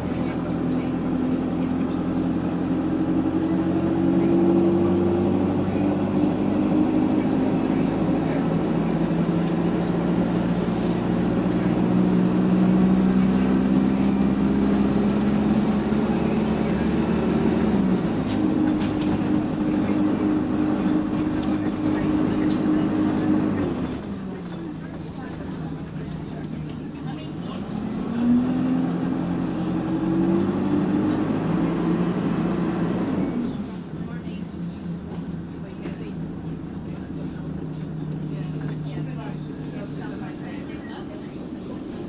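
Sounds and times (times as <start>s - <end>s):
bus engine running: 0.0s - 42.0s.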